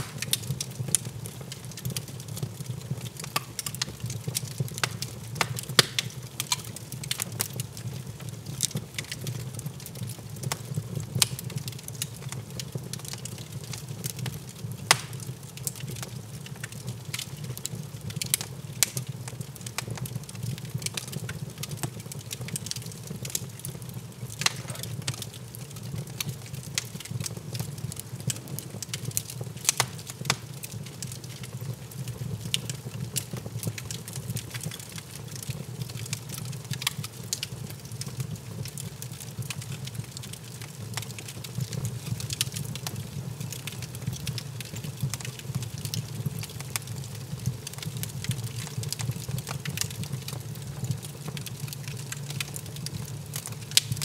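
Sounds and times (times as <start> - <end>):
log fire crackling: 0.0 - 54.0.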